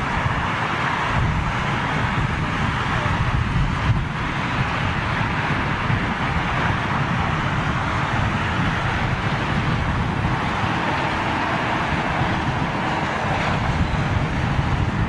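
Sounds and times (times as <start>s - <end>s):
outdoor rushing noise: 0.0s - 15.0s
wind buffeting microphone: 0.0s - 15.0s.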